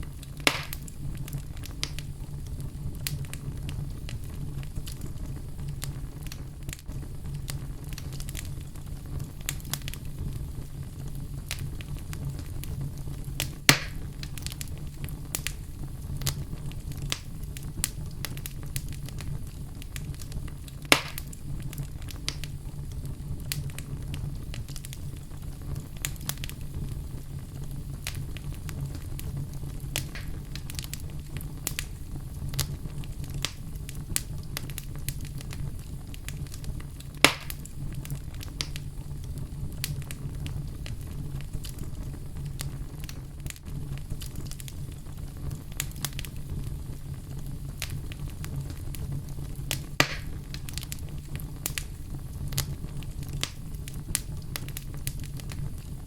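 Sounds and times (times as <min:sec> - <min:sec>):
fire rumbling and crackling: 0:00.0 - 0:56.0
loud sharp fire pops: 0:00.0 - 0:56.0.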